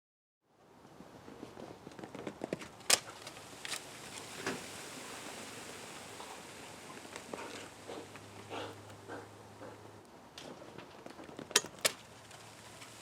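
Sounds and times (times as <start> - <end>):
faint steady hiss: 0.5 - 13.0.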